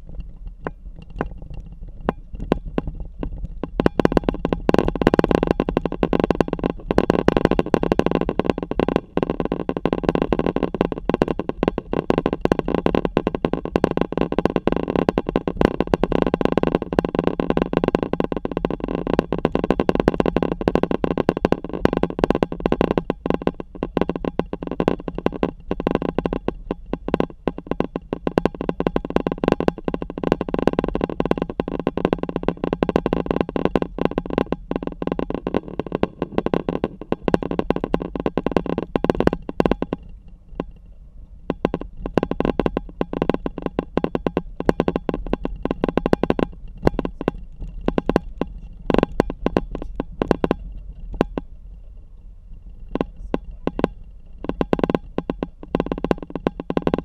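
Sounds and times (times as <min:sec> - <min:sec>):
crackling rumble of gravel road: 0:00.0 - 0:57.0.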